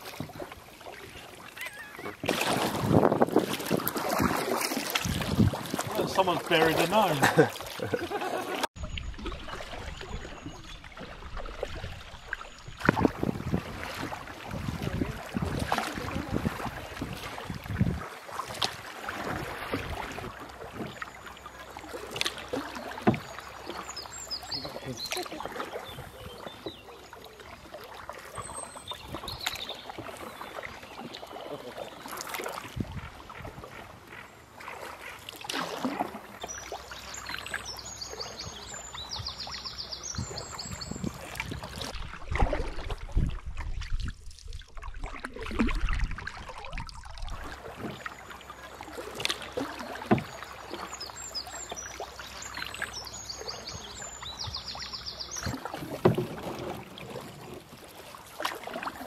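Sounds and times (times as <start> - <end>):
canoe paddle splashes: 0.0 - 59.0
water trickling off paddle: 0.0 - 59.0.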